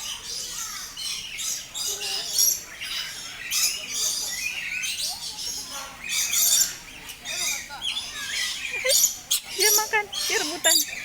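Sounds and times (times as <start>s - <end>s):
birds chirping and squawking: 0.1s - 11.0s.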